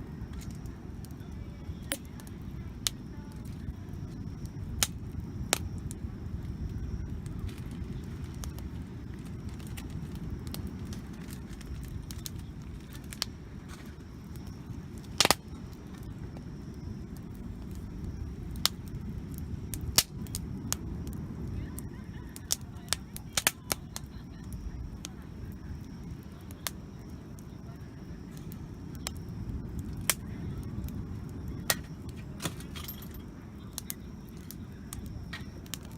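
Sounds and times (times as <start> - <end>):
campfire crackling: 0.0 - 35.9
low steady rumble: 0.0 - 35.9
sharp fire pops: 0.0 - 35.9.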